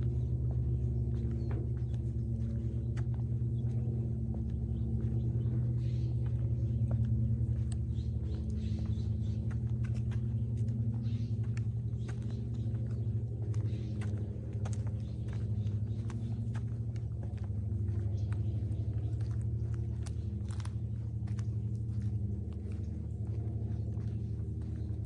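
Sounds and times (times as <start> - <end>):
low mechanical hum: 0.0 - 25.0
footsteps on dry leaves: 1.8 - 25.0.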